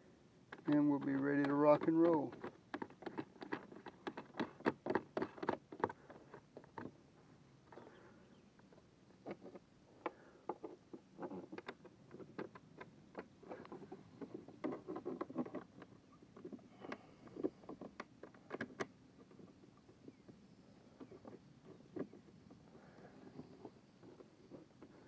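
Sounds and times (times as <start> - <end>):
hands handling plastic kayak hull: 0.5 - 8.0, 8.6 - 25.0.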